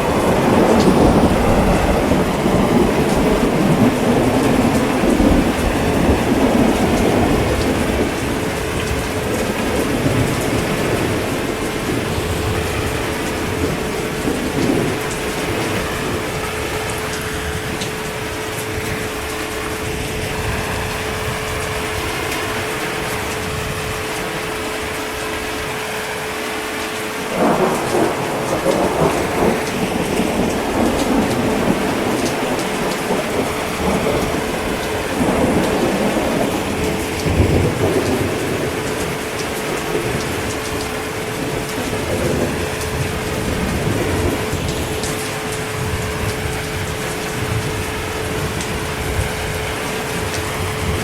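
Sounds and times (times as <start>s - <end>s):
heavy rain: 0.0s - 51.0s
thunder rumbling: 0.0s - 51.0s.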